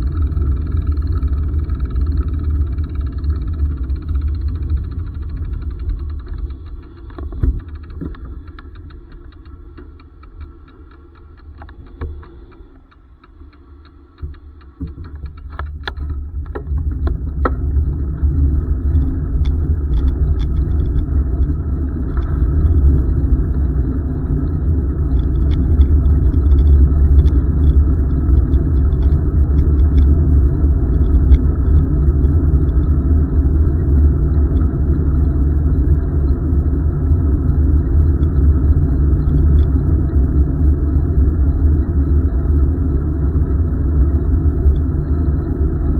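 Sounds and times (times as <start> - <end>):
wind and road rumble: 0.0 - 45.9.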